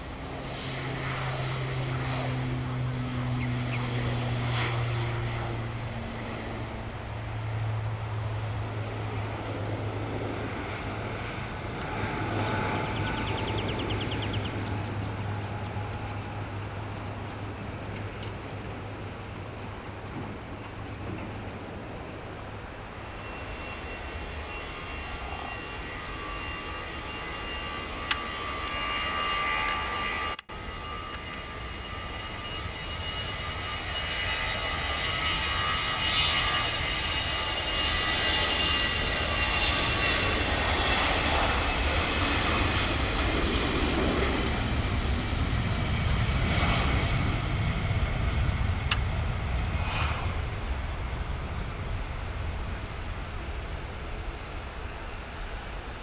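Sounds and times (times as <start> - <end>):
jet engines at takeoff: 0.0 - 56.0.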